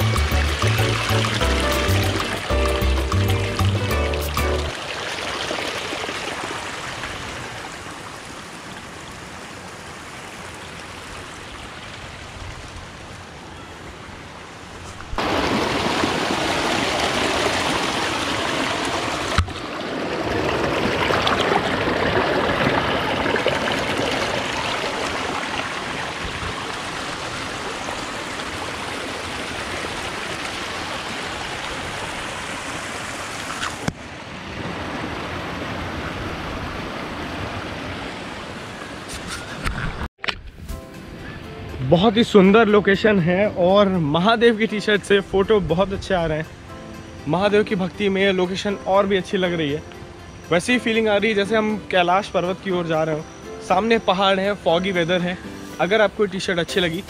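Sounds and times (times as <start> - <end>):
stream water rushing: 0.0 - 40.1, 40.9 - 57.0.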